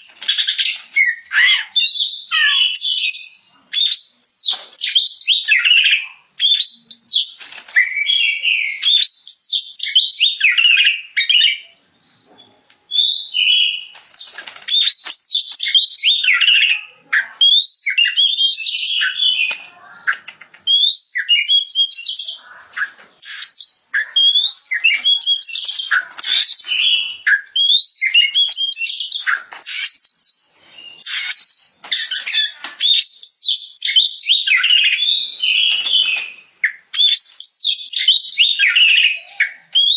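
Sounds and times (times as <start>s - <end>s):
songbird singing whistled phrases: 0.3s - 39.9s.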